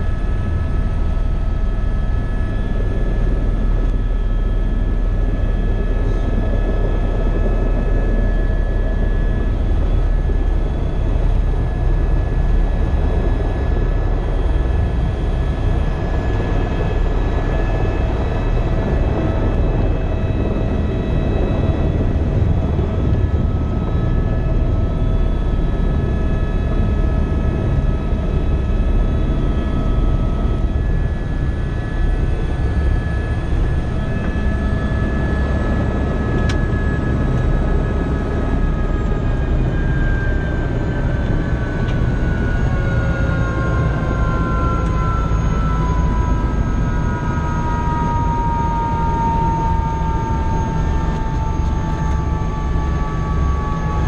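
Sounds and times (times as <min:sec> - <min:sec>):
helicopter engine and rotor rumble: 0:00.0 - 0:54.0
turbine whine: 0:00.0 - 0:54.0.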